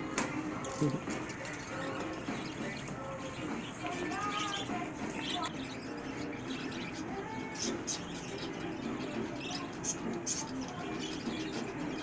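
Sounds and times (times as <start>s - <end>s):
background hubbub: 0.0s - 12.0s
budgerigars chirping and warbling: 0.5s - 12.0s.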